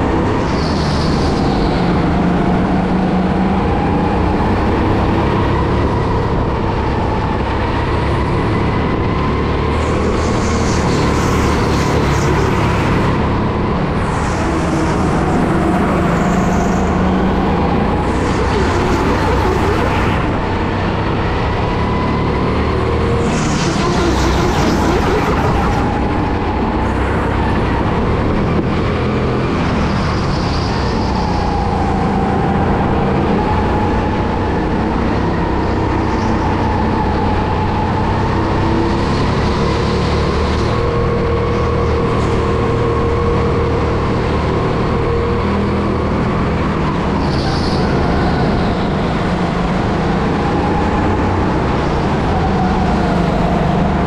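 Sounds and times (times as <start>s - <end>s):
go-kart motor whine: 0.0s - 54.0s
wind and tyre noise: 0.0s - 54.0s.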